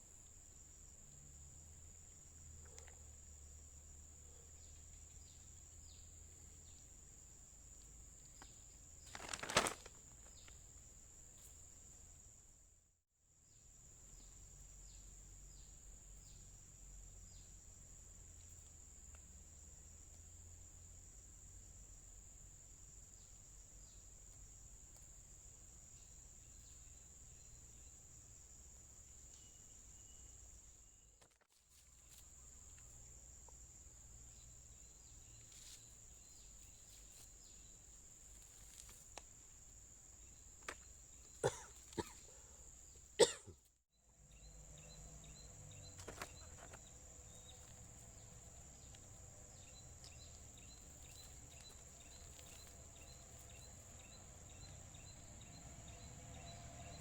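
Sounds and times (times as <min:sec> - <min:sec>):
insects droning: 0:00.0 - 0:12.8, 0:13.4 - 0:57.0.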